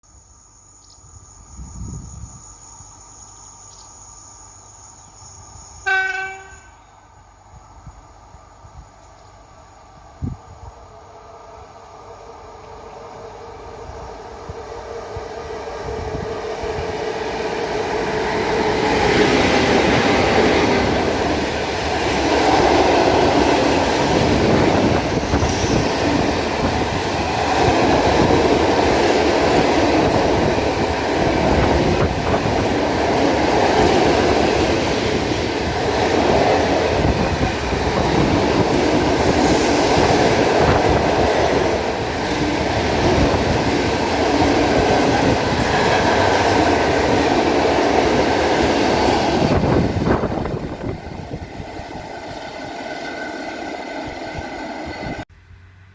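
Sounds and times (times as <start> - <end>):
freight train rumbling past: 1.0 - 55.9.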